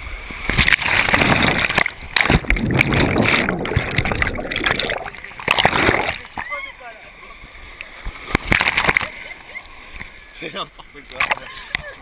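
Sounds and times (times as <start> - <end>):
rushing splashing water: 0.0 - 12.0.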